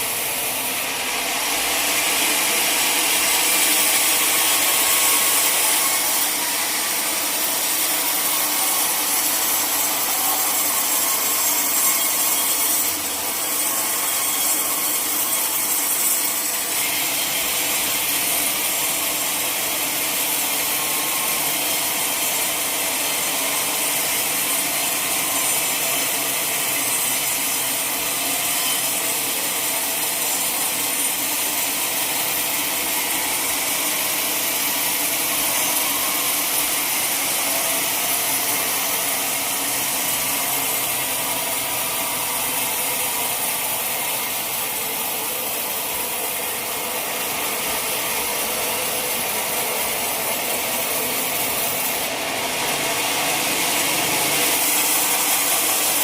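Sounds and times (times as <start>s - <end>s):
saw cutting through log: 0.0s - 56.0s.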